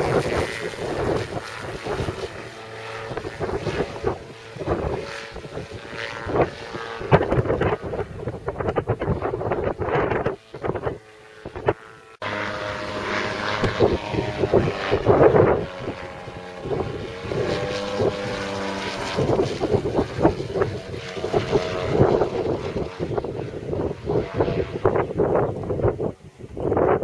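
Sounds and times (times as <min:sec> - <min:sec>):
aircraft engine and propeller droning: 0:00.0 - 0:27.0
wind buffeting microphone: 0:00.0 - 0:27.0.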